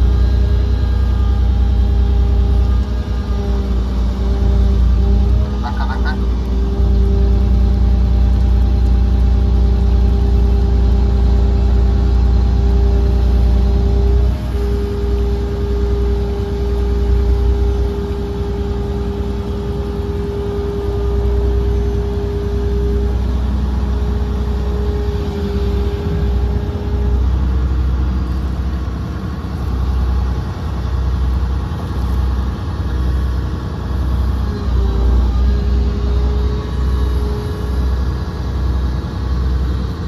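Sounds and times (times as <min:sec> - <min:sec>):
diesel engine rumbling: 0:00.0 - 0:40.0.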